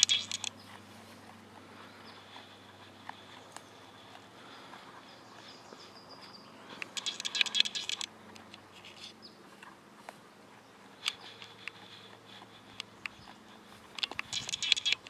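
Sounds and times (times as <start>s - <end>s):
goat chewing grass: 0.0s - 15.0s.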